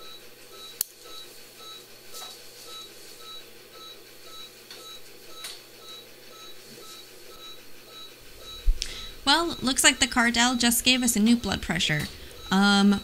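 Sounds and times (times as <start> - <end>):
patient monitor beeping: 0.0 - 13.0.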